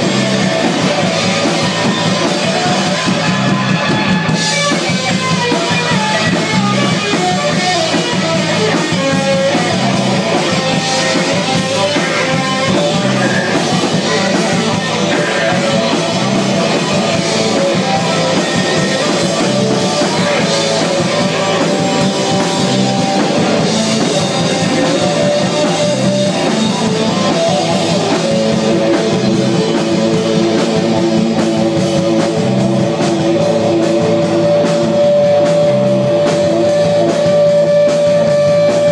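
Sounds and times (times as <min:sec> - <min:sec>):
drum kit: 0:00.0 - 0:38.9
electric guitar: 0:00.0 - 0:38.9
rock band playing live: 0:00.0 - 0:38.9.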